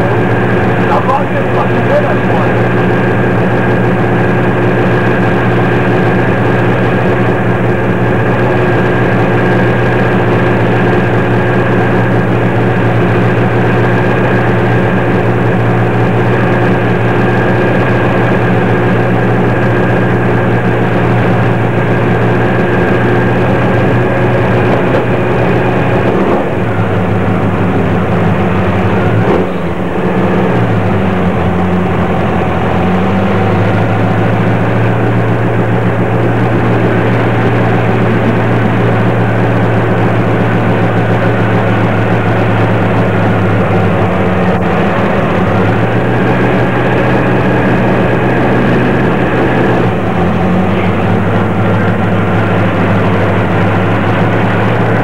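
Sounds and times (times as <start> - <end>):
truck engine running inside cab: 0.0 - 55.0.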